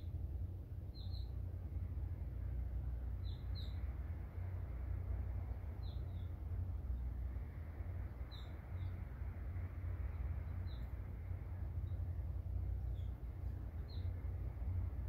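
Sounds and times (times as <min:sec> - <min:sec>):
songbird chirping: 0:00.0 - 0:15.0
steady low rumble: 0:00.0 - 0:15.0.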